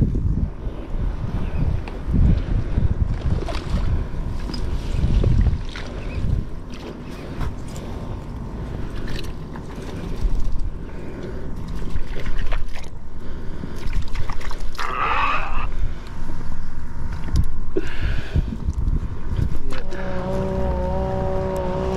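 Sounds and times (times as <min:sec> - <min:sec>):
wind buffeting microphone: 0:00.0 - 0:14.8, 0:15.7 - 0:21.9.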